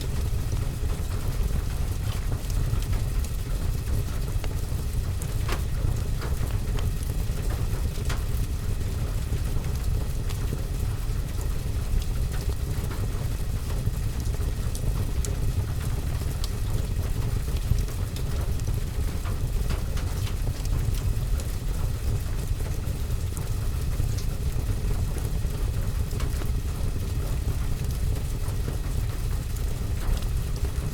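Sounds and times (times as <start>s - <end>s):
rain on a roof and window: 0.0s - 30.9s
wood fire crackling: 0.0s - 30.9s.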